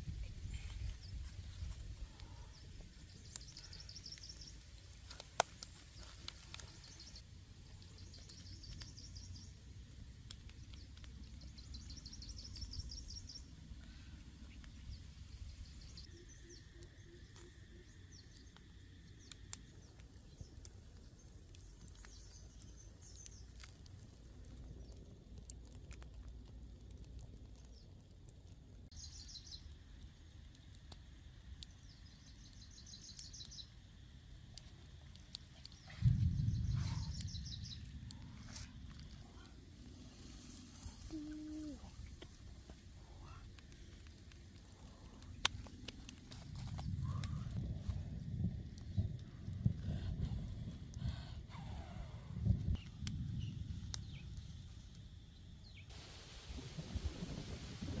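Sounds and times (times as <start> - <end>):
low background rumble: 0.0 - 55.9.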